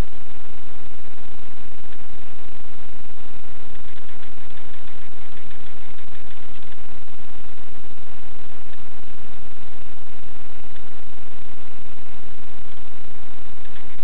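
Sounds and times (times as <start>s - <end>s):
static hiss with crackle: 0.0s - 14.0s.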